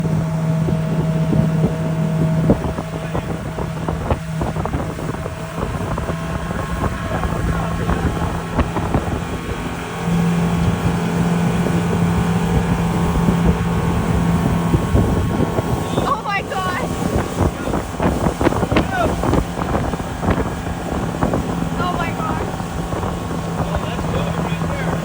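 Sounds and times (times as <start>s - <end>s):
motorboat engine humming: 0.0s - 25.0s
wind buffeting microphone: 0.0s - 25.0s.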